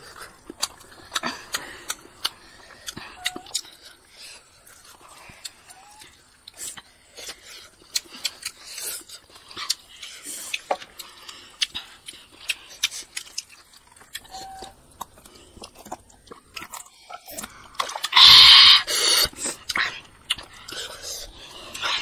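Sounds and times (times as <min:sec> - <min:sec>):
chewing and lip-smacking: 0:00.0 - 0:22.0.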